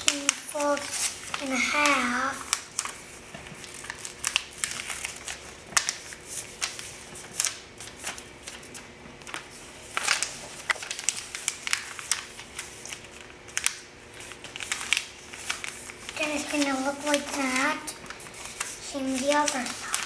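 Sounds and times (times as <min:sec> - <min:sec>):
paper crinkling and creasing: 0:00.0 - 0:20.0.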